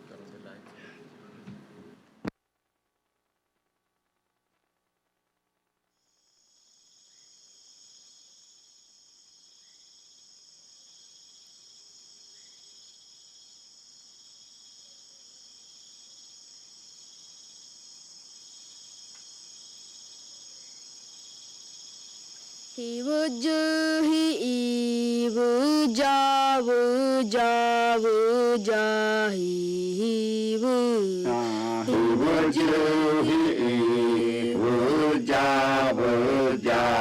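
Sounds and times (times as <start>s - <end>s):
insect chorus trilling: 6.0s - 37.0s.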